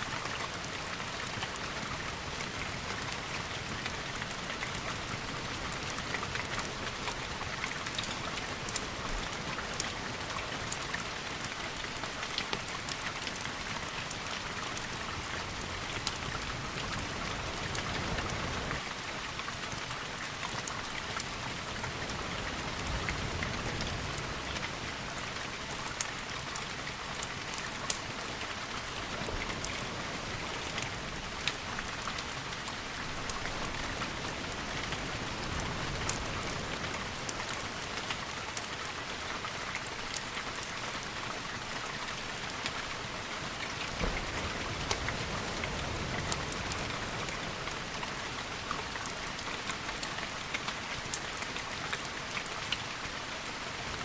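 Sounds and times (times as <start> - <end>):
steady rain with drop ticks: 0.0 - 54.0.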